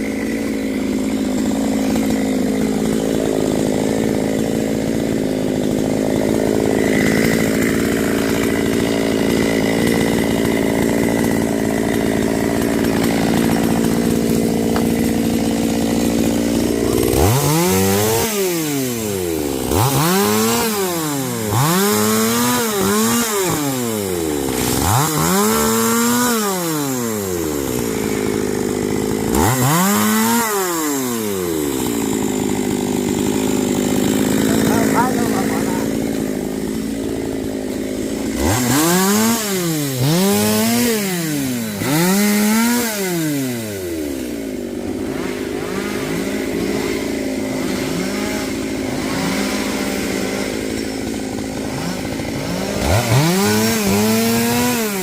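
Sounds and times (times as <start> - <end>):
chainsaw engine revving: 0.0 - 55.0.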